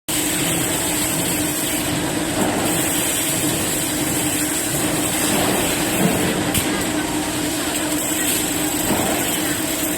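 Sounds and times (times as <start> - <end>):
welding arc hiss: 0.1 - 9.9.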